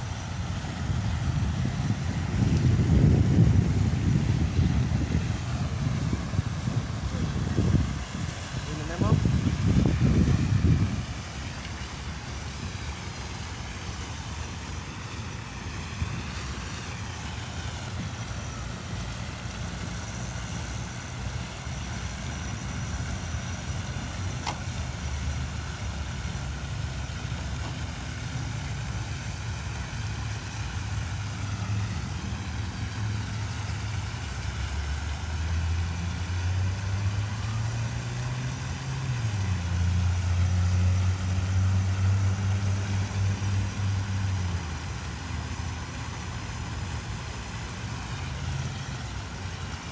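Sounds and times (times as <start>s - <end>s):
engine humming: 0.0s - 49.9s.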